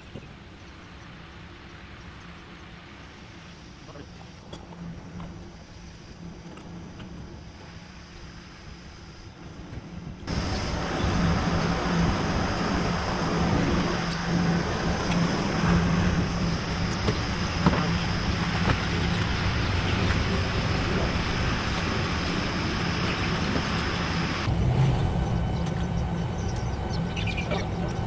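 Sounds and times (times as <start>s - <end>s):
low hum: 0.0s - 28.0s
rushing background noise: 0.0s - 28.0s.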